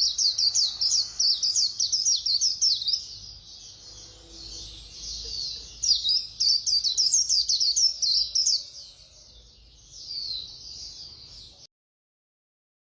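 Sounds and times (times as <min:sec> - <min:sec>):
small bird twittering song: 0:00.0 - 0:11.7.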